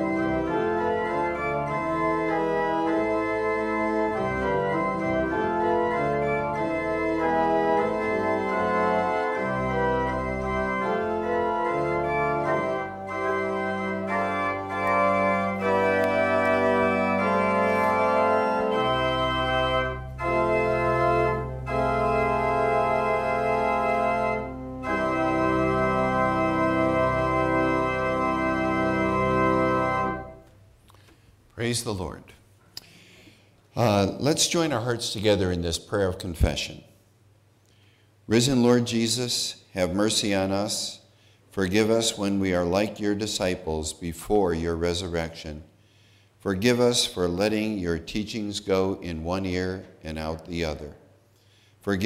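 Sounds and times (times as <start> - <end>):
church organ chords: 0.0 - 30.6, 38.2 - 45.8, 46.4 - 52.0.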